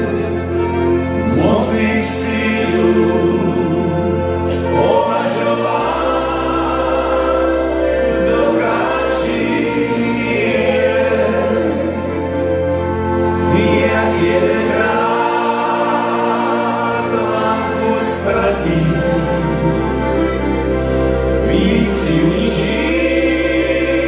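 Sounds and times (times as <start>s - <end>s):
men singing together: 0.0s - 12.4s, 13.5s - 20.6s, 21.4s - 24.0s
accordions playing: 0.0s - 24.0s.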